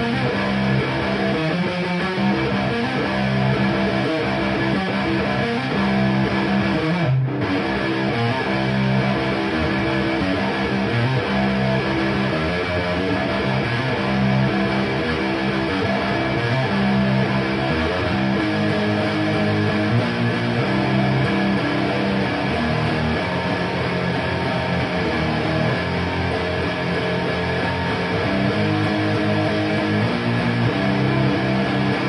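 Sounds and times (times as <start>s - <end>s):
electric guitar chords: 0.0s - 32.0s.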